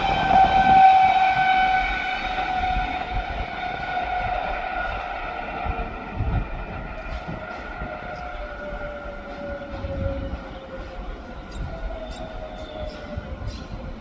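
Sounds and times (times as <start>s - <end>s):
electric train whine: 0.0s - 14.0s
train wheel rumble: 0.0s - 14.0s.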